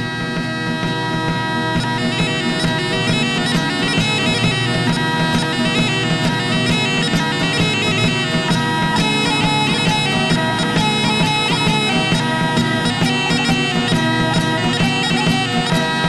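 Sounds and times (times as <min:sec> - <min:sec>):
quick melody: 0:00.0 - 0:16.0.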